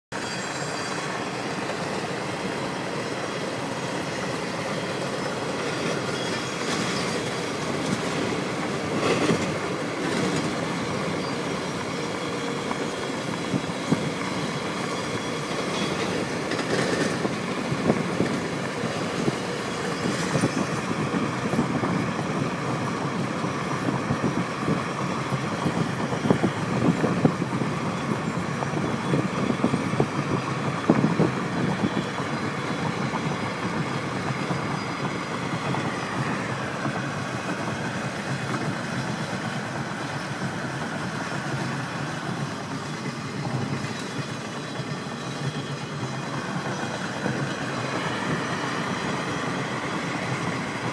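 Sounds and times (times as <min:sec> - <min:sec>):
train wheels rumbling on rail: 0:00.1 - 0:50.9.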